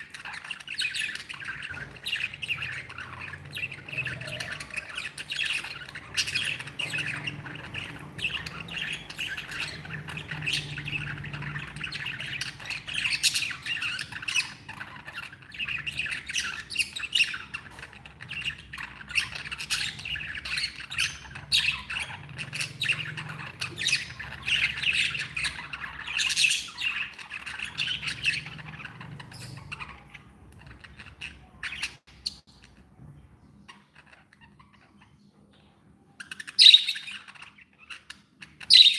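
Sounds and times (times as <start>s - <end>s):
bird squawks: 0.0s - 32.5s, 33.6s - 38.9s
budgerigars chattering: 0.0s - 32.8s, 33.6s - 38.9s.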